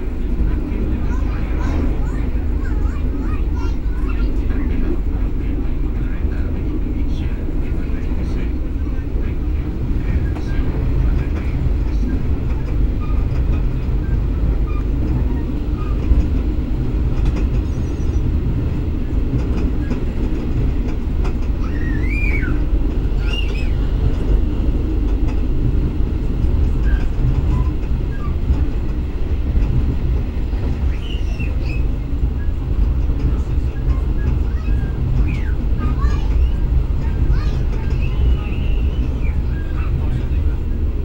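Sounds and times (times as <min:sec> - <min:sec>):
train wheels rumbling on track: 0:00.0 - 0:41.0.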